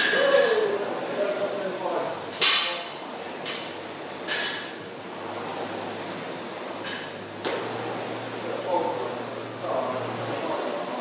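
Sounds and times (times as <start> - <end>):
rowing machine fan whirring: 0.0 - 11.0.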